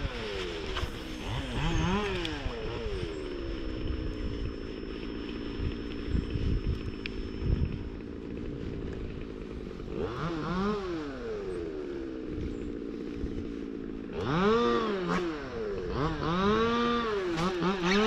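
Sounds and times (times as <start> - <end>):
small engine revving: 0.0 - 18.0.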